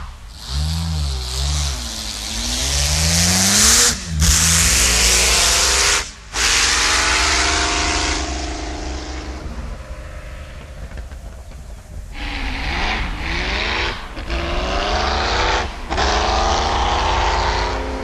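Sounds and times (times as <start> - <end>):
race car engine revving: 0.0 - 11.2, 12.1 - 18.0.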